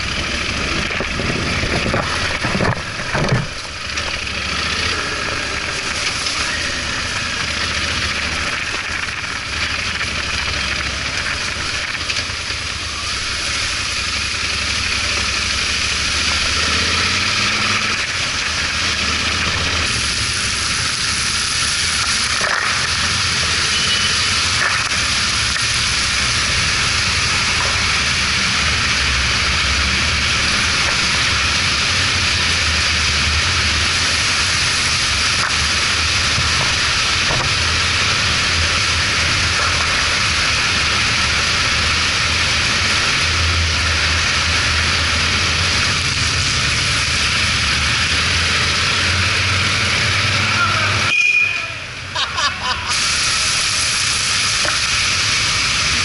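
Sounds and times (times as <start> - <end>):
motorcycle engine running: 0.0 - 50.4
tyres hissing on wet road: 0.0 - 56.0.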